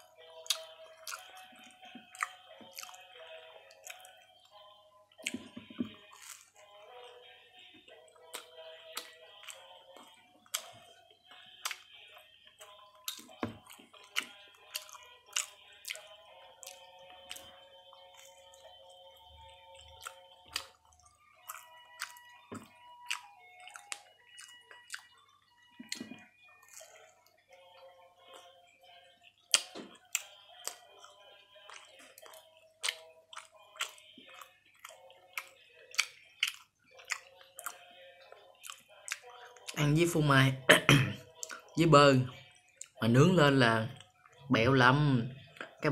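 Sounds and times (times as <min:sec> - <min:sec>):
soft background music: 0:00.0 - 0:45.9
chewing with mouth clicks: 0:00.3 - 0:07.2, 0:08.0 - 0:39.8, 0:41.3 - 0:41.8.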